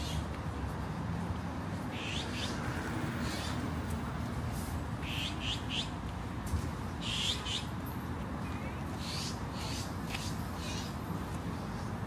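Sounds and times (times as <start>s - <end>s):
low street hum: 0.0s - 12.0s.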